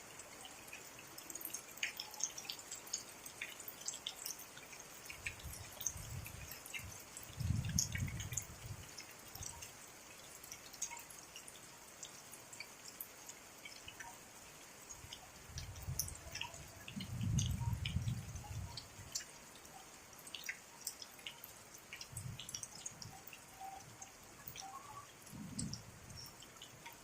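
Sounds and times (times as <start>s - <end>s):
rain dripping: 0.0s - 27.0s.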